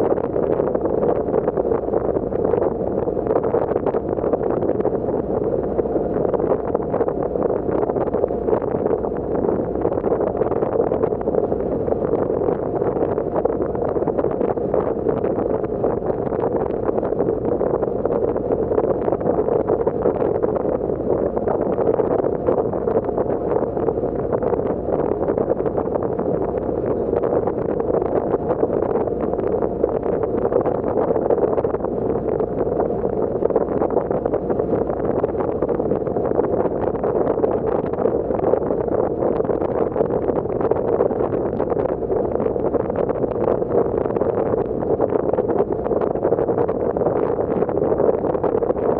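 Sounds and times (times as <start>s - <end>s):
wind buffeting microphone: 0.0s - 48.9s
wind and water rushing: 0.1s - 48.9s.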